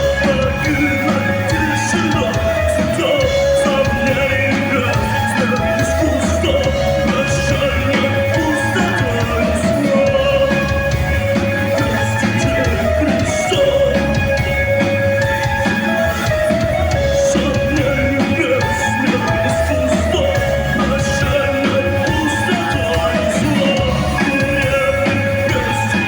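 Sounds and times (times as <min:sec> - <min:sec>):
drums: 0:00.0 - 0:26.0
electric guitar: 0:00.0 - 0:26.0
live rock band playing: 0:00.0 - 0:26.0.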